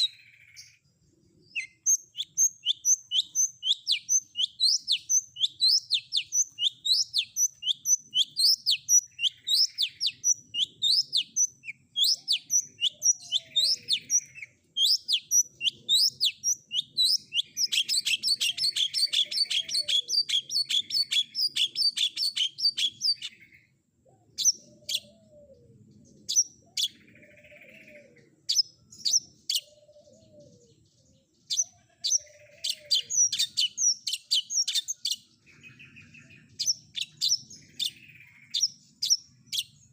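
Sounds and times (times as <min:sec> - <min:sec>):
bird whistled song: 0:00.0 - 0:23.7, 0:24.3 - 0:39.9
bird trill: 0:00.0 - 0:39.9.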